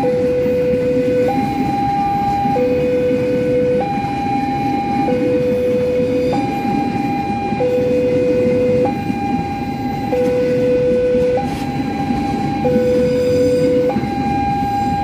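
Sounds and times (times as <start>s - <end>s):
level crossing two-tone alarm: 0.0s - 15.0s.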